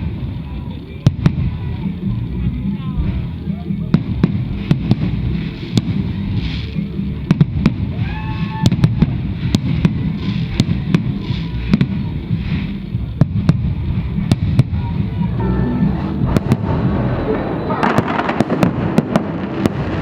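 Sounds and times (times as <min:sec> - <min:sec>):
fireworks bangs and cracks: 0:00.0 - 0:20.0
rumble of firework bursts: 0:00.0 - 0:20.0.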